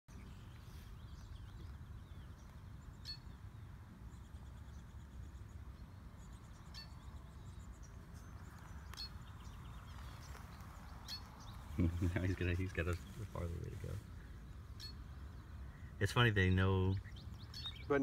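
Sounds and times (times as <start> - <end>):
faint insect calls: 0.1 - 18.0.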